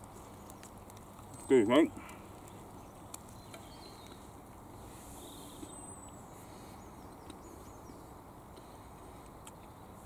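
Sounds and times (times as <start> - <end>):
low steady outdoor noise: 0.0 - 10.0.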